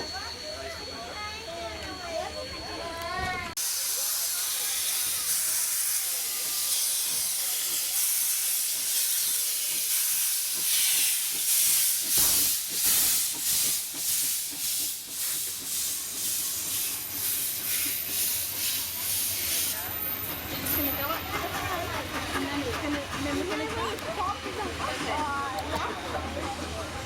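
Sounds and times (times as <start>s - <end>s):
steam locomotive hissing: 0.0s - 27.0s.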